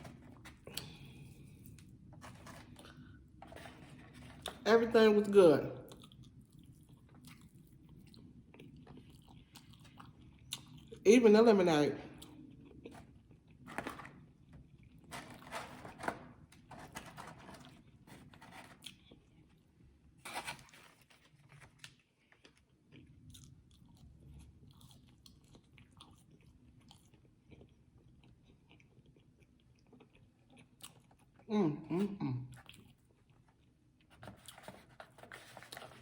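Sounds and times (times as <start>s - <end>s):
chewing and crunching food: 0.0s - 4.7s, 5.8s - 11.1s, 12.0s - 31.5s, 32.4s - 36.0s.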